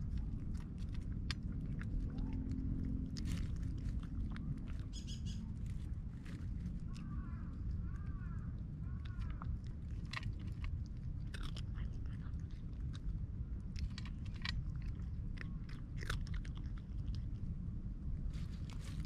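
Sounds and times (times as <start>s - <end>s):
cat crunching dry kibble: 0.0s - 19.0s.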